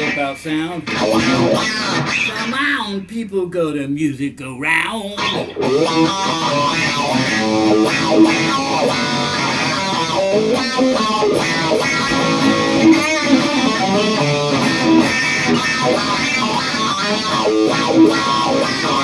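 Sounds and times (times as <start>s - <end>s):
clean electric guitar: 0.0s - 2.8s, 5.0s - 19.0s.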